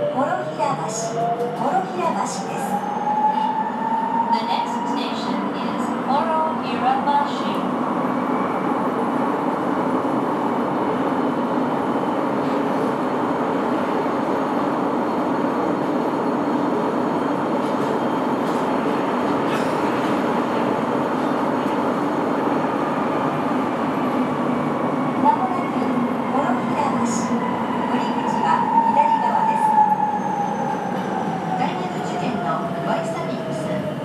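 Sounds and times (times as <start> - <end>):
subway car rumble: 0.0 - 34.0.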